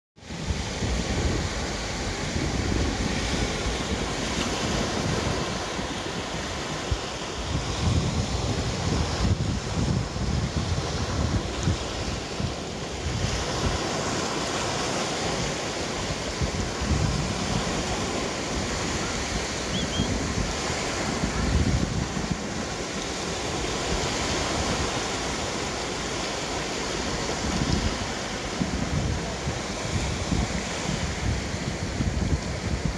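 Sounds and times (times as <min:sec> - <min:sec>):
waves breaking on beach: 0:00.2 - 0:32.9
wind buffeting microphone: 0:00.2 - 0:32.9.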